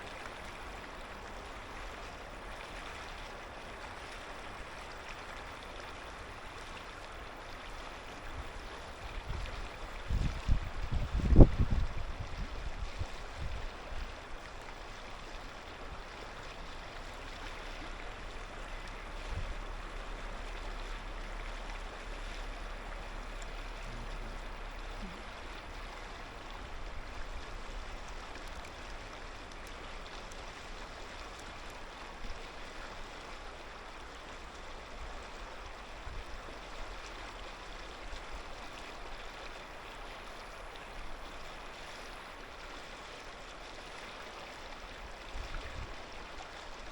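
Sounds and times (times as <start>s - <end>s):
river babbling over stones: 0.0s - 46.9s.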